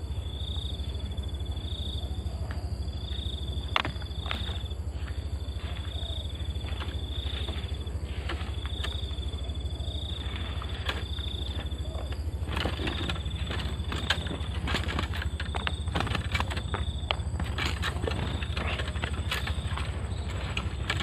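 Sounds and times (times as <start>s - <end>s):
insects chirping in trills: 0.0s - 21.0s
steady low hum: 0.0s - 21.0s.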